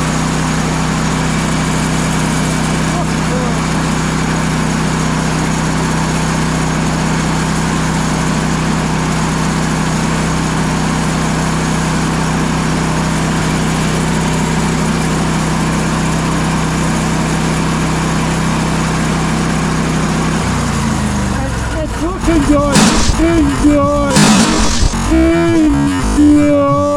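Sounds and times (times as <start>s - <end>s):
petrol engine running steadily: 0.0s - 26.9s.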